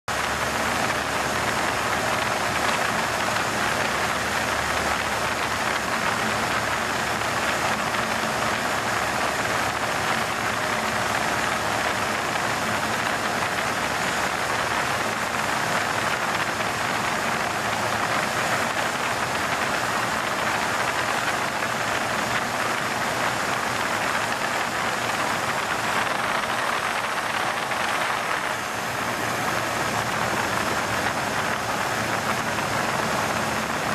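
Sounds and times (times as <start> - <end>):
small plane engine drone in cockpit: 0.1 - 33.9.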